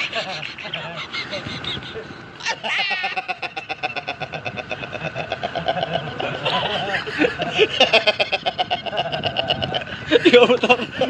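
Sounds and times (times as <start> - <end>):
man laughing hard: 0.0 - 11.0.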